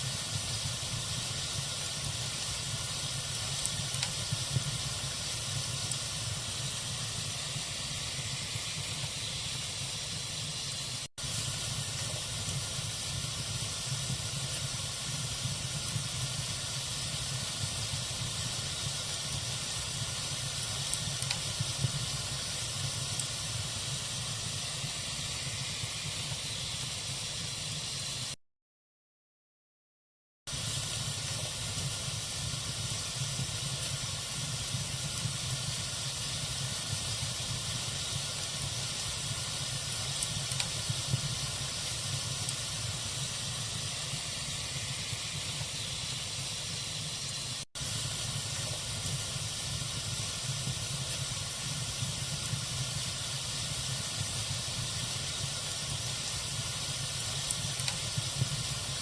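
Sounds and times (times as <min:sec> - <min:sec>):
log fire hissing and crackling: 0:00.0 - 0:28.4, 0:30.5 - 0:59.0.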